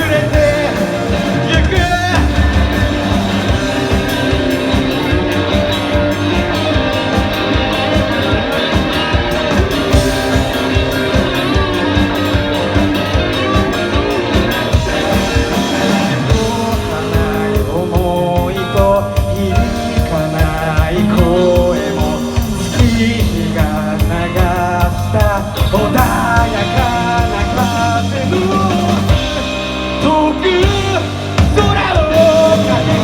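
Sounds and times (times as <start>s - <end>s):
electric guitar: 0.0s - 33.0s
steady drum beat: 0.0s - 33.0s.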